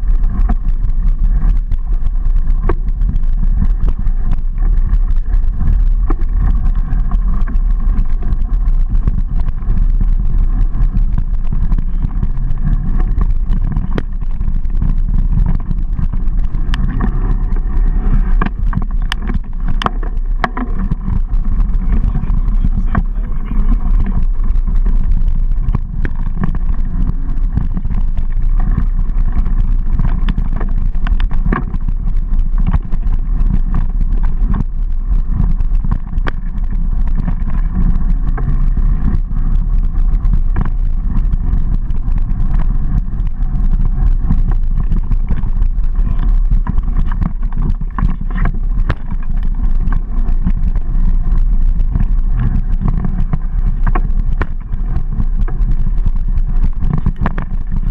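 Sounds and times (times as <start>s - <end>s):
bike rattling over bumps: 0.0s - 57.9s
wind and tyres rumbling on dirt: 0.0s - 57.9s.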